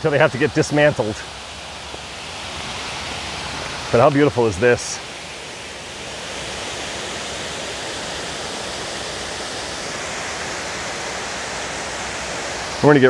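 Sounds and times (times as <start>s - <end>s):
water rushing down dam steps: 0.0s - 13.0s.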